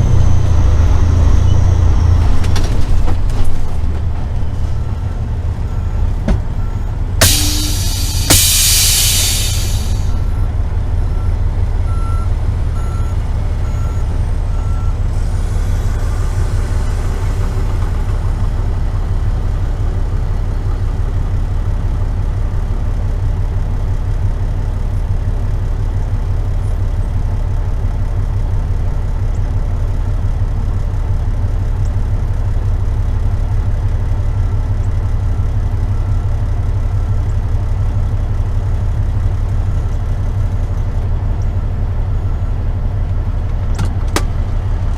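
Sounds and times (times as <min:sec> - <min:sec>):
diesel truck engine rumbling: 0:00.0 - 0:44.9.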